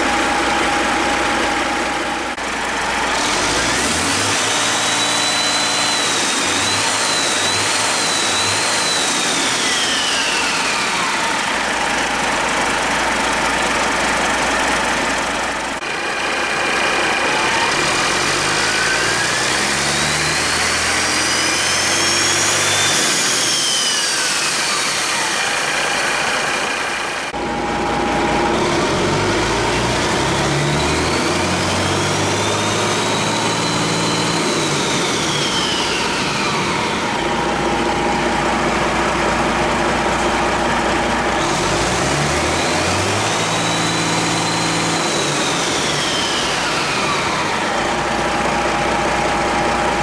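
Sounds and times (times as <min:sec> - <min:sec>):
diesel engine revving: 0:00.0 - 0:50.0
high engine whine: 0:00.0 - 0:50.0.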